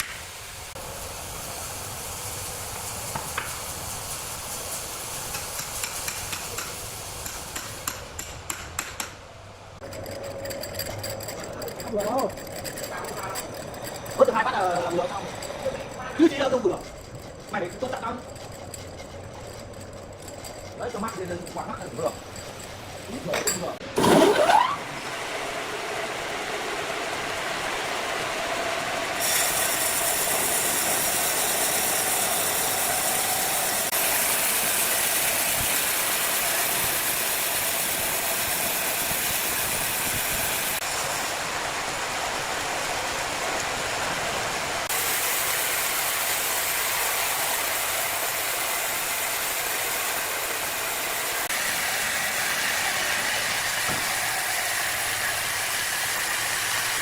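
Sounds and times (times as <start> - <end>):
power saw cutting wood: 9.8 - 22.9, 23.8 - 57.0.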